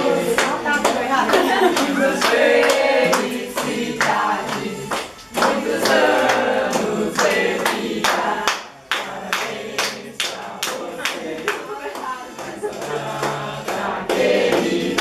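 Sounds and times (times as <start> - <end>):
group singing a birthday song: 0.0 - 15.0
hand claps in time: 0.4 - 15.0.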